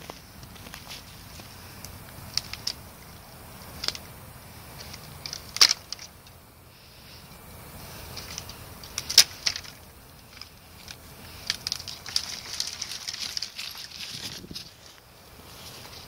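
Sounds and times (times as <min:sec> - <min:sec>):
twigs crackling and snapping: 0:00.0 - 0:06.4, 0:08.0 - 0:16.0.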